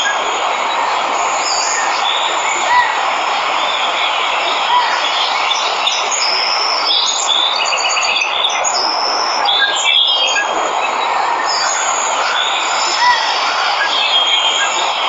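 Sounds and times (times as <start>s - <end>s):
birds chirping: 0.0s - 15.0s
waterfall rushing: 0.0s - 15.0s.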